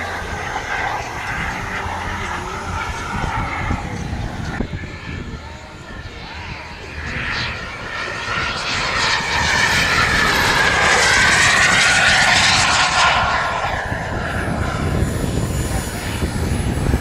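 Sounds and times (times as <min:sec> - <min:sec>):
model jet turbine whining: 0:00.0 - 0:17.0.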